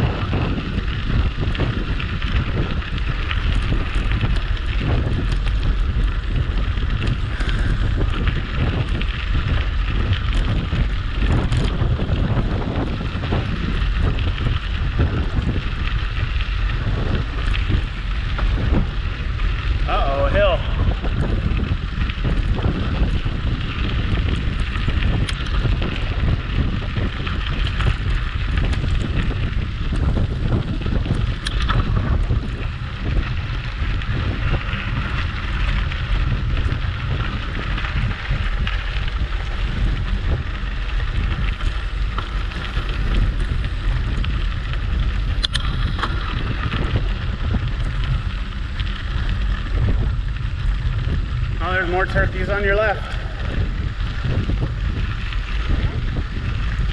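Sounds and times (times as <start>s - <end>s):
tyres rolling on trail: 0.0s - 56.9s
wind buffeting microphone: 0.0s - 56.9s.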